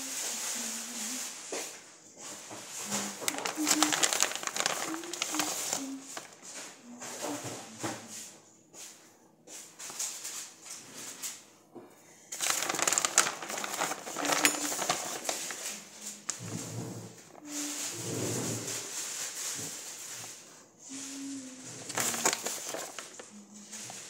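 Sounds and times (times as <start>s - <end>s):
cheese sprinkling and rustling: 0.0s - 11.4s, 12.3s - 24.0s.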